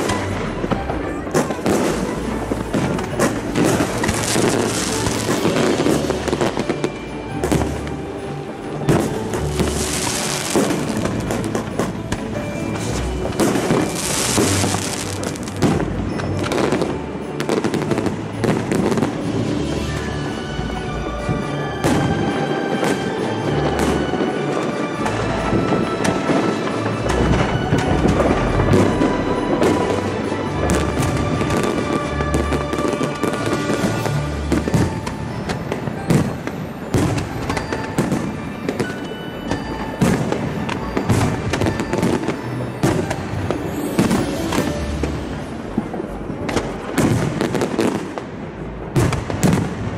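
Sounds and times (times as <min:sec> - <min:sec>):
background music: 0:00.0 - 0:49.9
fireworks bangs: 0:00.0 - 0:49.9
fireworks cracking and popping: 0:00.0 - 0:49.9.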